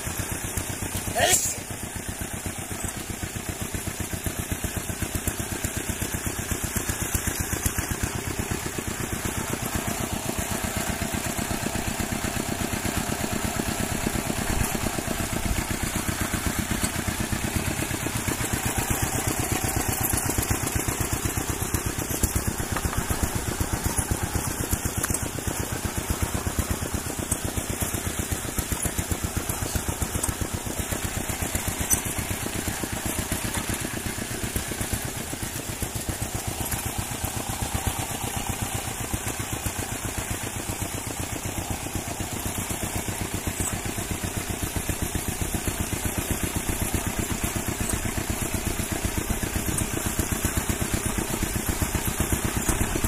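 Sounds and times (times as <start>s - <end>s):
engine idling: 0.0s - 53.0s.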